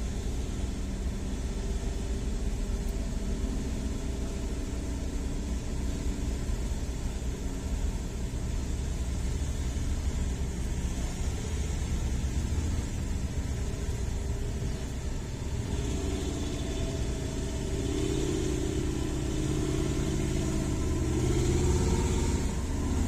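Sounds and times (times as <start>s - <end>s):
heavy diesel engine rumbling: 0.0s - 23.0s.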